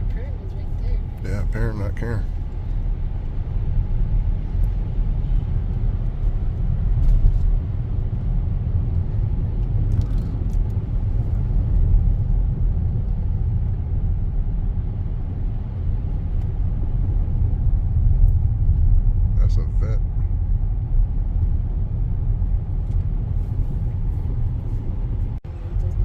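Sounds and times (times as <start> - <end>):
tyre and road noise: 0.0 - 26.0.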